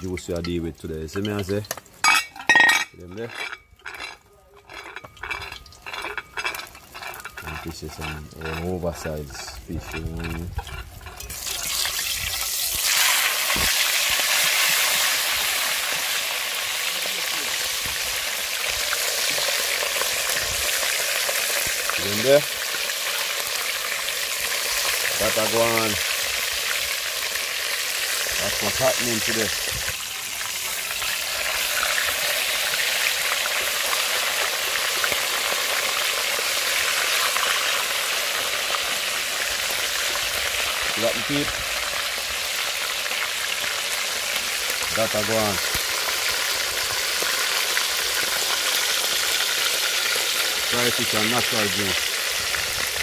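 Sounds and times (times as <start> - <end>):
fish deep-frying in oil: 0.0 - 53.0.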